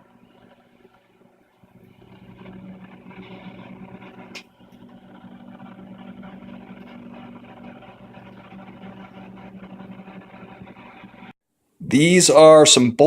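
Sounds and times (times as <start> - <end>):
microwave oven humming: 0.0 - 11.3.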